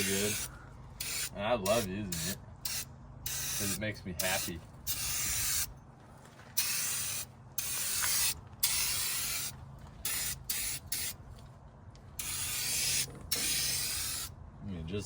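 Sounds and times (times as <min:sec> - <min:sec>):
spray can hissing bursts: 0:00.0 - 0:05.7, 0:06.6 - 0:11.2, 0:12.2 - 0:14.3.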